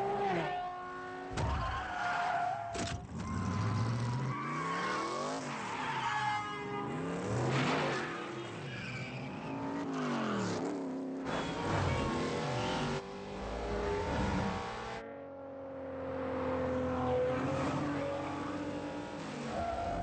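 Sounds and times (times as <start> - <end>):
cars revving and sweeping past: 3.3 - 20.0.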